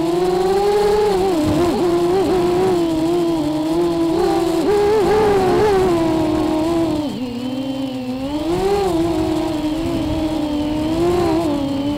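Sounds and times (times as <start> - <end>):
quadcopter motors buzzing whine: 0.0 - 11.9.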